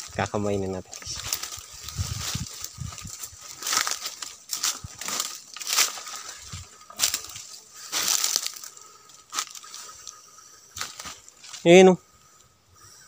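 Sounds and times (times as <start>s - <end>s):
dry leaves rustling and crunching: 0.0s - 11.8s.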